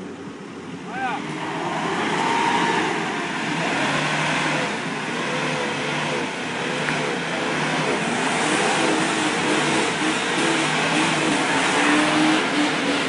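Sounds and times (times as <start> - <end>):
car engine revving: 0.0 - 13.0
steady rush of noise: 0.0 - 13.0.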